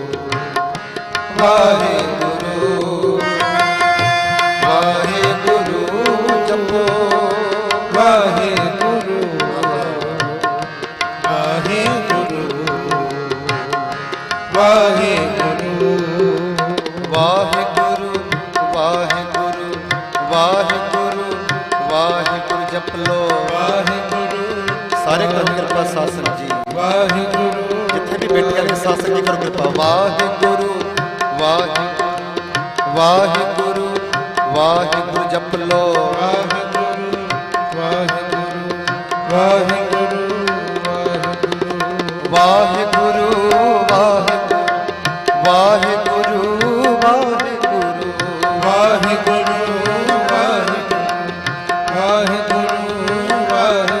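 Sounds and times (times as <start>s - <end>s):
harmoniums playing melody: 0.0s - 54.0s
person singing: 0.0s - 54.0s
tabla rhythm: 0.0s - 54.0s.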